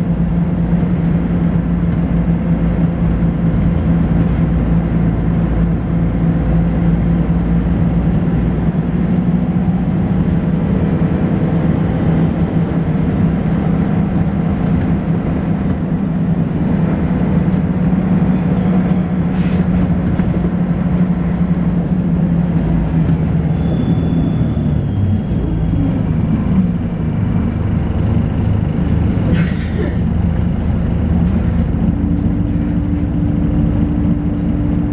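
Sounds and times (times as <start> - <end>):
bus diesel engine drone: 0.0 - 34.9.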